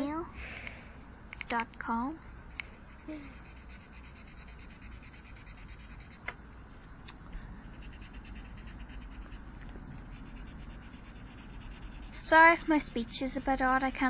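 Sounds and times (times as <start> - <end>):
marker scratching on paper: 1.9 - 14.0.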